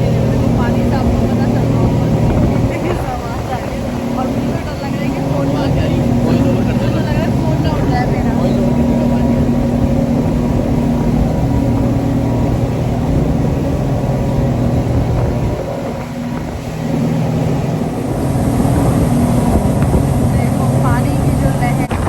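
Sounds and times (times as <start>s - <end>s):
boat engines running: 0.0s - 22.0s
rushing wind: 0.0s - 22.0s
water rushing: 0.0s - 22.0s.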